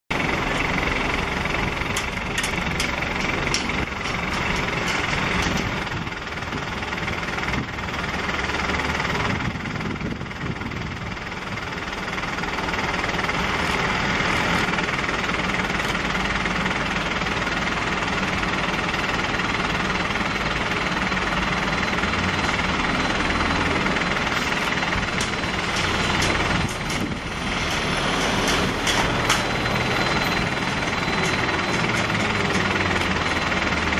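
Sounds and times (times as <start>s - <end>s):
jet engines rumbling with whine: 0.2s - 8.6s, 9.2s - 33.9s.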